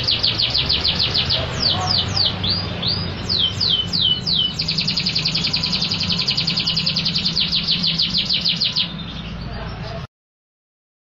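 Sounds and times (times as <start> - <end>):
canary singing: 0.0 - 10.1.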